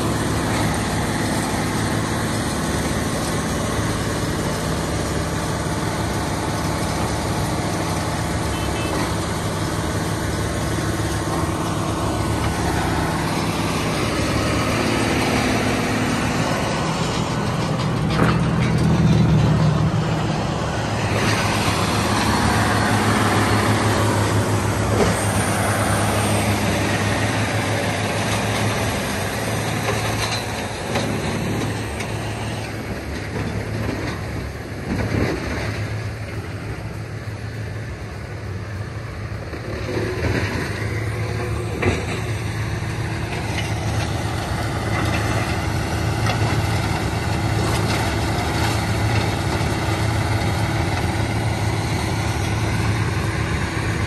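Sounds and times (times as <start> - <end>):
wood grinder diesel engine humming: 0.0 - 54.0.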